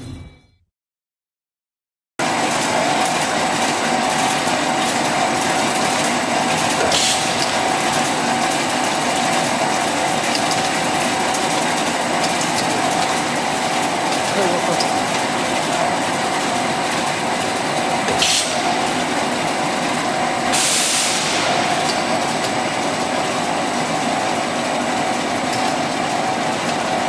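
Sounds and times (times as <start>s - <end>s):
extrusion machine hum and whine: 2.2s - 27.0s.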